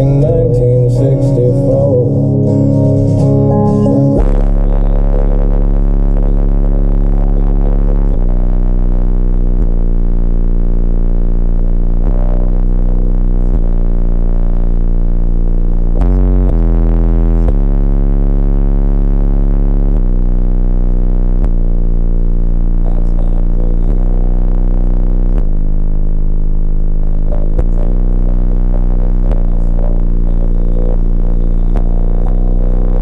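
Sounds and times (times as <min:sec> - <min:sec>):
loud synthesizer bass music: 0:00.0 - 0:33.0.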